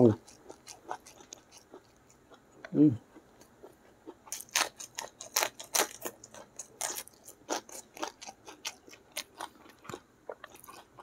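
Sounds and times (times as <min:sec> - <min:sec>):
close chewing with mouth clicks: 0:00.0 - 0:11.0.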